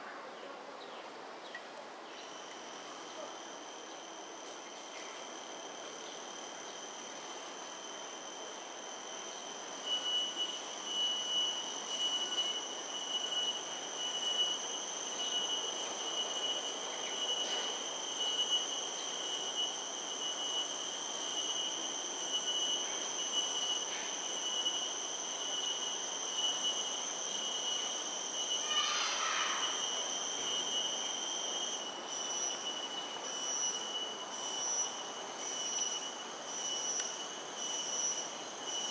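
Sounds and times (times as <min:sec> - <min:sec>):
high-pitched insect drone: 0:02.1 - 0:38.9.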